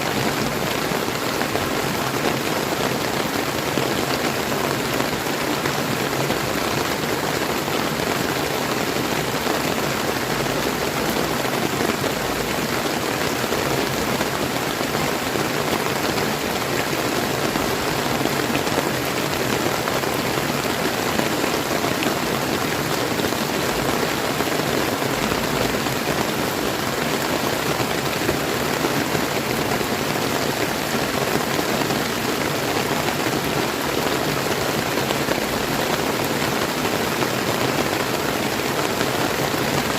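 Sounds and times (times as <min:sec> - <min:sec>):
river flowing: 0:00.0 - 0:39.9
steady rain falling: 0:00.0 - 0:39.9.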